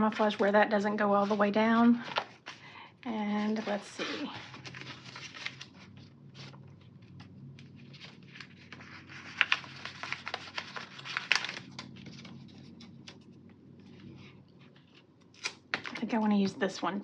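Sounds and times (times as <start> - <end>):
paper and sticker sheets rustling: 0.0 - 16.8.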